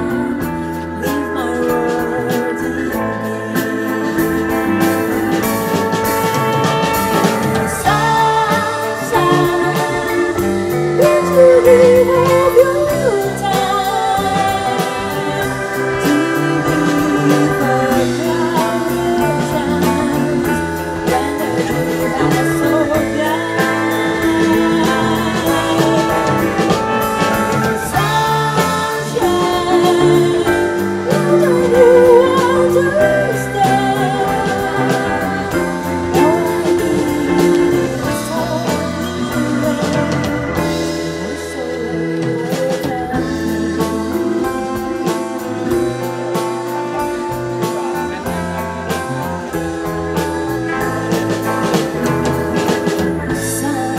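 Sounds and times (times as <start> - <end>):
woman singing into a microphone: 0.0 - 49.1, 50.2 - 53.9
bass guitar: 0.0 - 53.9
drum kit: 0.0 - 53.9
electric guitar: 0.0 - 53.9
keyboard: 0.0 - 53.9.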